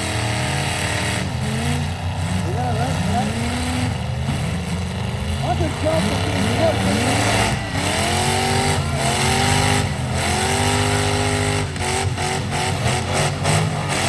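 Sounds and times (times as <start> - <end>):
truck engines revving hard: 0.0 - 14.0.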